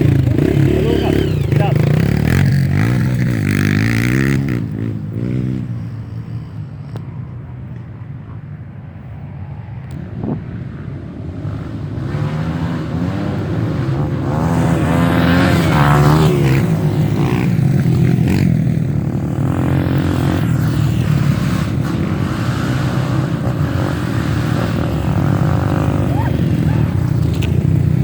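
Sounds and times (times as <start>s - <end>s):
motorcycle engines revving: 0.0s - 8.8s, 9.8s - 28.0s.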